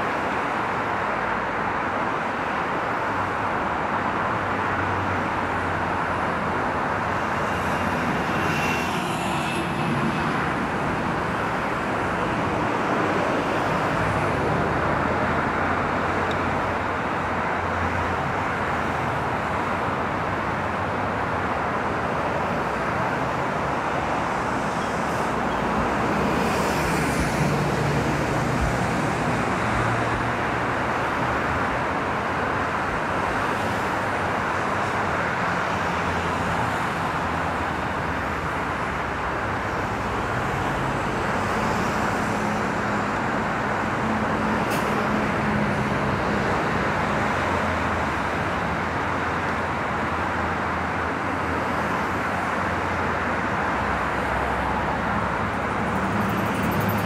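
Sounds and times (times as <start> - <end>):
passing vehicles humming: 0.0 - 57.0
road traffic noise: 0.0 - 57.0.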